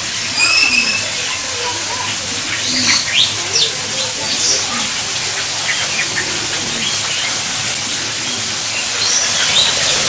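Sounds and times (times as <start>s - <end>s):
birds chirping: 0.0s - 10.0s
steady hiss: 0.0s - 10.0s.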